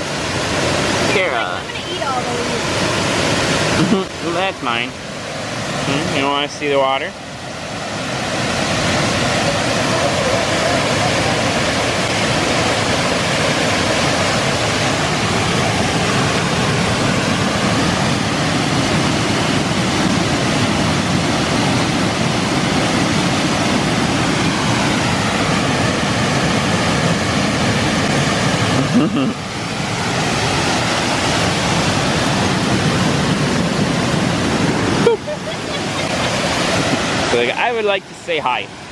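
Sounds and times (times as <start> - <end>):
river cascading over rocks: 0.0 - 38.9
waterfall rushing: 0.0 - 38.9.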